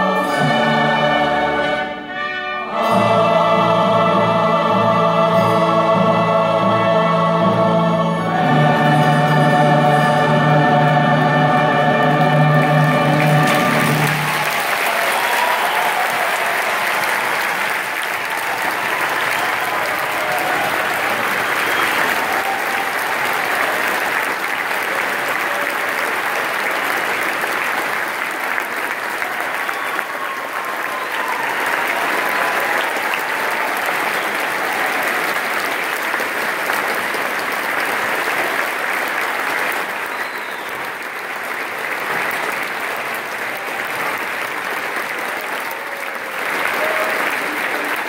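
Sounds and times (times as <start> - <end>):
large audience applauding: 8.3 - 48.0.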